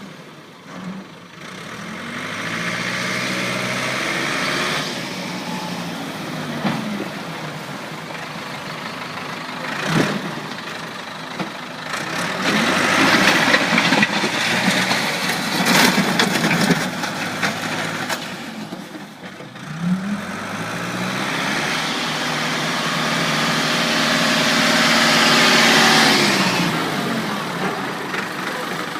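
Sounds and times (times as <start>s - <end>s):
backhoe diesel engine running: 0.0s - 28.9s.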